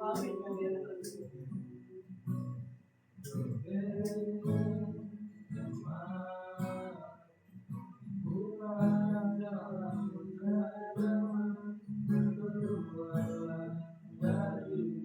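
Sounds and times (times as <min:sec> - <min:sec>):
person singing: 0:00.0 - 0:01.6, 0:03.2 - 0:07.2, 0:08.3 - 0:15.0
guitar: 0:00.0 - 0:15.0.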